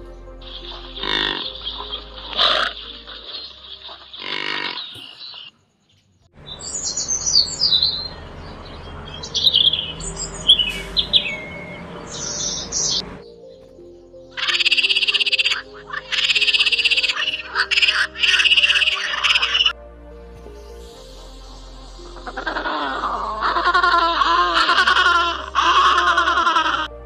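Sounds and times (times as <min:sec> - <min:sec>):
flock of birds chirping: 0:00.0 - 0:26.8.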